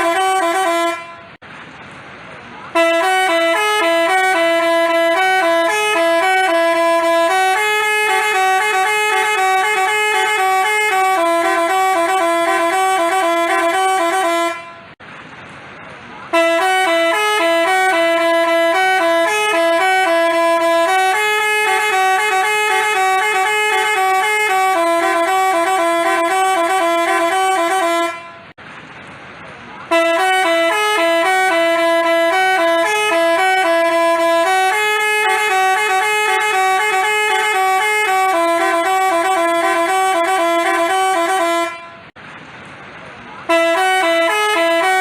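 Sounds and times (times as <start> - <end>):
buzzy musical bus horn: 0.0 - 1.4, 2.7 - 15.0, 16.3 - 28.6, 29.8 - 42.2, 43.4 - 45.0.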